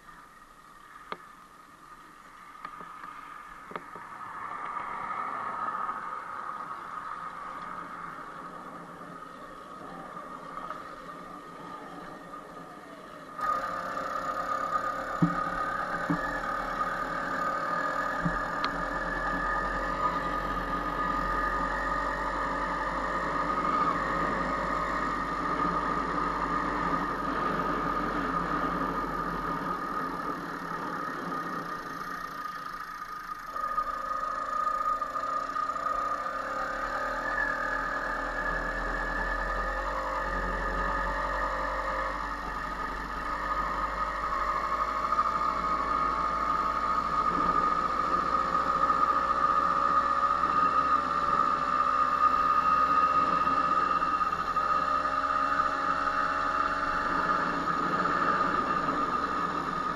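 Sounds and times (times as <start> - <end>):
vehicle motor running: 0.0 - 59.9.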